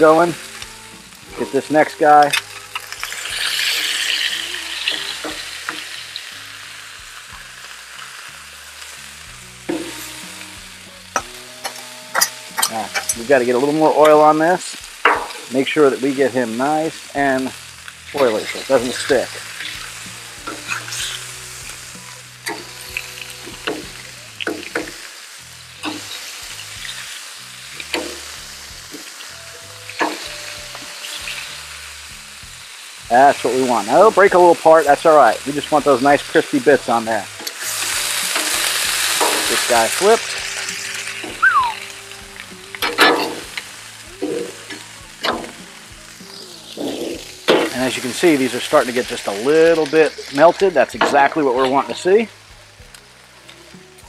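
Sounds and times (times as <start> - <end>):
ground beef sizzling on a griddle: 0.0 - 54.0.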